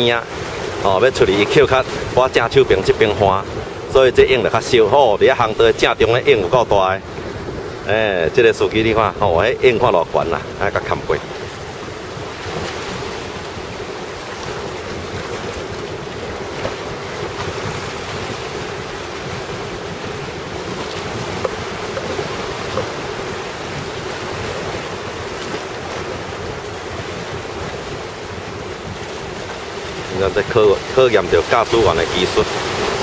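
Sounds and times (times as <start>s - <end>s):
waves breaking: 0.0s - 33.0s
wind buffeting microphone: 0.0s - 33.0s.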